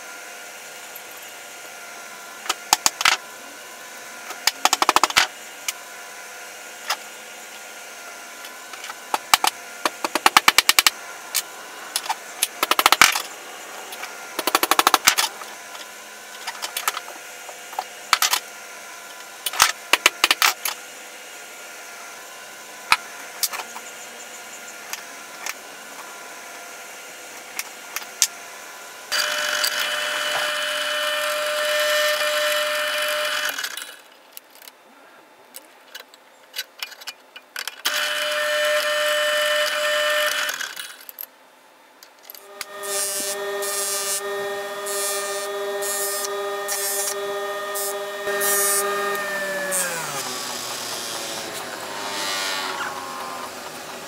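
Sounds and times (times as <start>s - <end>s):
drill press running: 0.0s - 5.9s, 6.6s - 34.1s, 37.8s - 41.0s, 42.3s - 54.0s.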